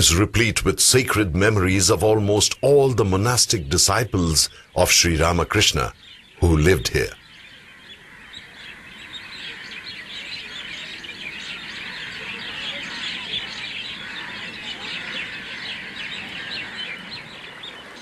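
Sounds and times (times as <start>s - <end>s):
small birds chirping chorus: 0.0s - 18.0s.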